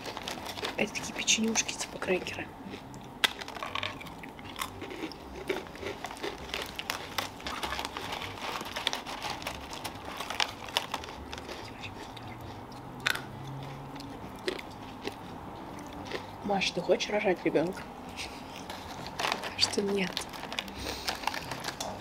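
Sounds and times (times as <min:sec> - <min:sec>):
crunching and chewing cookies: 0:00.0 - 0:22.0.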